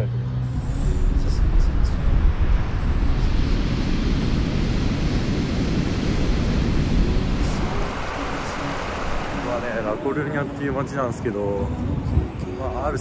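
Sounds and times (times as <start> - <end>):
ocean surf breaking on beach: 0.7 - 13.0.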